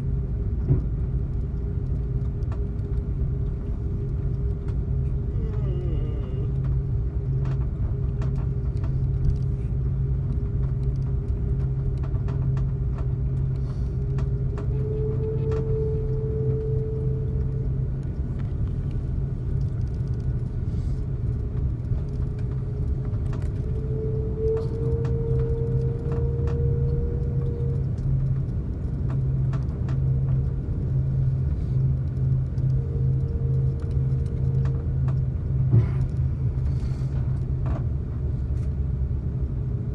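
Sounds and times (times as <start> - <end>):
aircraft engine rumble and hum: 0.0 - 39.9
faint whine: 0.0 - 39.9.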